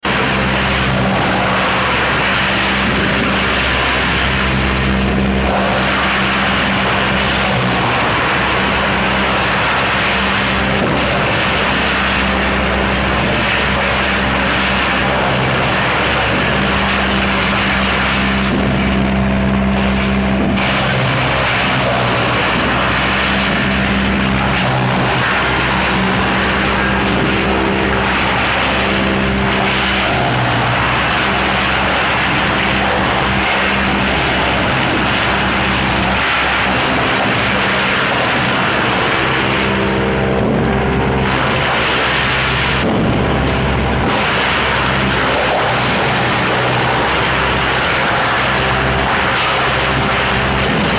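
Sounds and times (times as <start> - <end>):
wood chipper running: 0.0 - 50.9.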